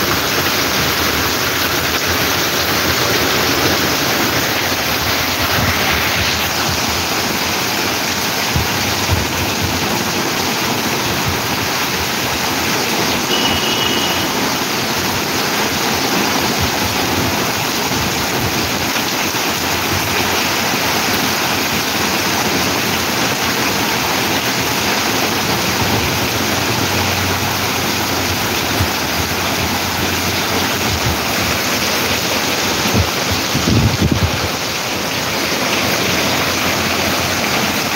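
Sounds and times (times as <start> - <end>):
heavy rain pouring: 0.0 - 37.9
rainwater running across road: 0.0 - 37.9.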